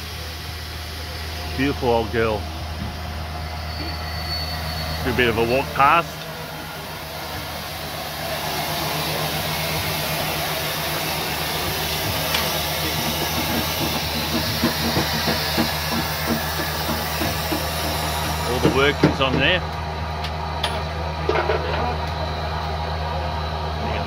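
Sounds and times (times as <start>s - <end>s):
steam hissing: 0.0s - 19.6s.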